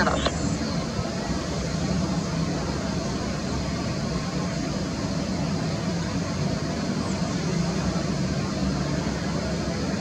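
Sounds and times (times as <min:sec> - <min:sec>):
jet engines running at low power: 0:00.0 - 0:10.0.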